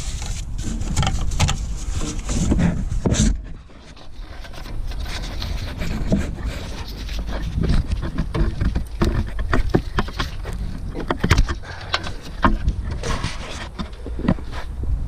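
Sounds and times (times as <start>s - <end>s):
knocks and clatter: 0.0s - 14.5s.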